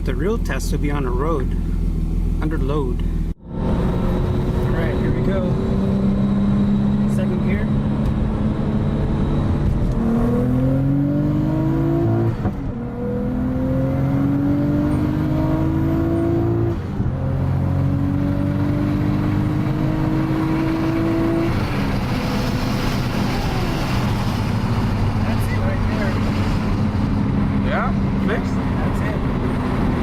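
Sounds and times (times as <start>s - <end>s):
car engine revving under load: 0.0s - 30.0s.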